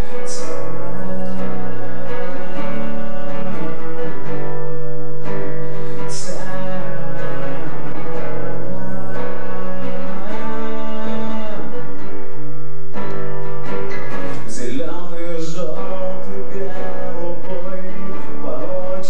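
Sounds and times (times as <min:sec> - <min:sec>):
guitar playing: 0:00.0 - 0:19.0.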